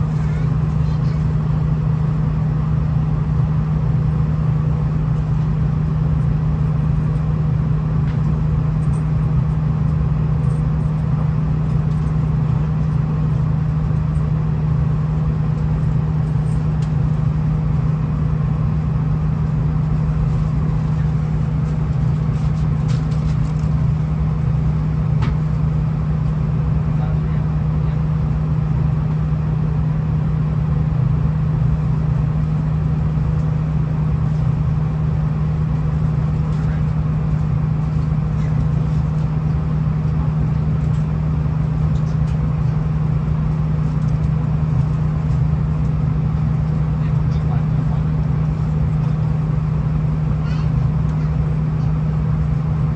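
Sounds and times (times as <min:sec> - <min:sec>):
diesel railcar drone: 0:00.0 - 0:52.9.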